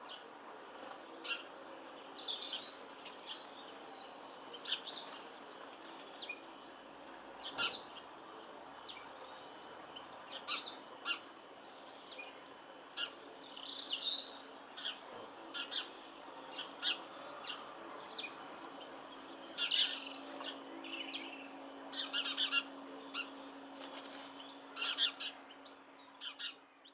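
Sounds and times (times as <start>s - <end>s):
songbirds chirping: 0.0s - 26.9s.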